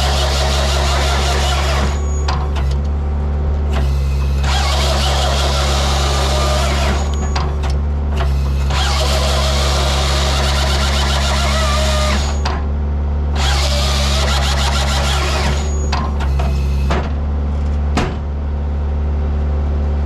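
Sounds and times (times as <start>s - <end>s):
hydraulic saw cutting logs: 0.0s - 3.0s, 3.6s - 17.0s
diesel engine running: 0.0s - 20.0s.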